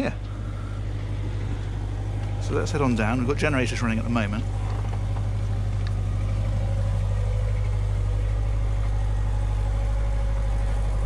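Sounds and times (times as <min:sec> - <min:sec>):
generators humming: 0:00.0 - 0:11.0.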